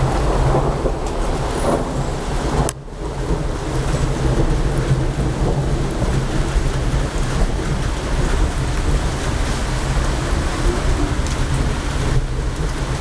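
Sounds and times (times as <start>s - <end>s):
heavy rain falling: 0.0s - 13.0s
low rumble of thunder: 0.0s - 13.0s.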